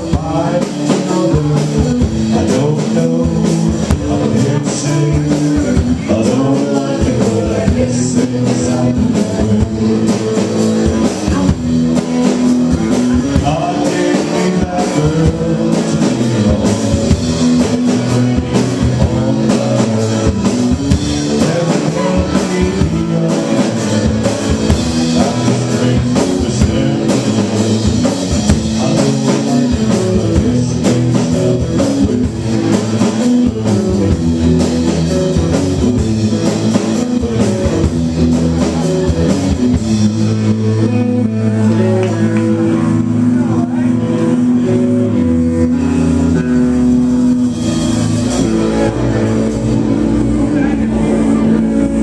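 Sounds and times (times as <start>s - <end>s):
drum kit beat: 0.0s - 52.0s
electric guitar: 0.0s - 52.0s.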